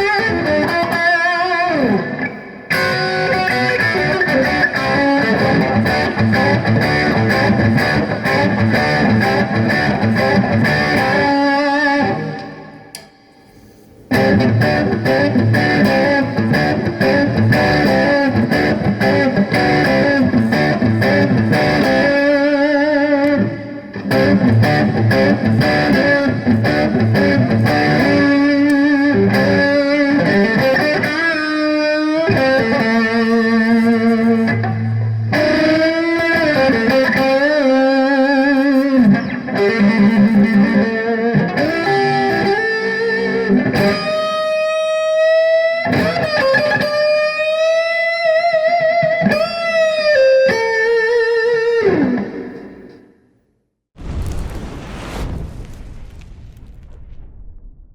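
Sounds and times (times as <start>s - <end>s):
electric guitar playing: 0.0s - 13.3s, 14.1s - 53.0s.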